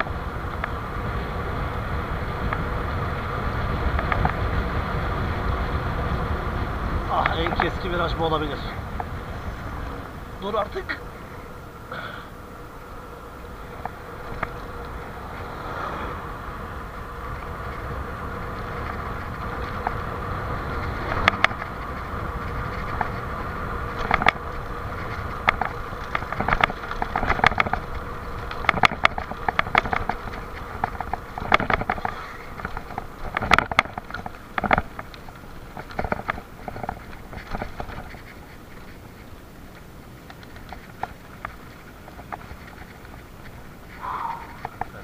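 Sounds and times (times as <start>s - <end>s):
bike rattling over bumps: 0.0s - 45.0s
bike rushing downhill: 0.0s - 45.0s.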